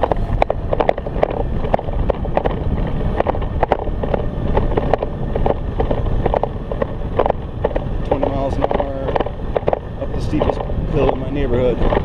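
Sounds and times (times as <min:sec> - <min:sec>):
road rumble: 0:00.0 - 0:12.0
short rattling knocks: 0:00.0 - 0:12.0
wind buffeting microphone: 0:00.0 - 0:12.0.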